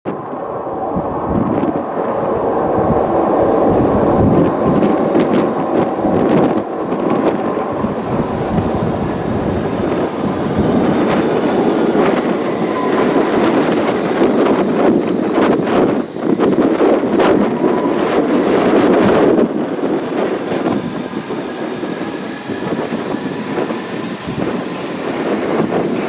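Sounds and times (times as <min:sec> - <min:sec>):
train wheels rumbling on rails: 0:00.1 - 0:26.0.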